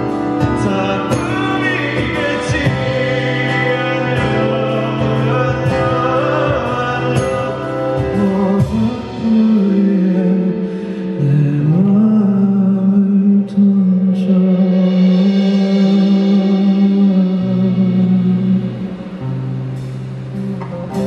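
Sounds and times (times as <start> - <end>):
man singing: 0.0 - 19.4
acoustic guitar: 0.0 - 21.0.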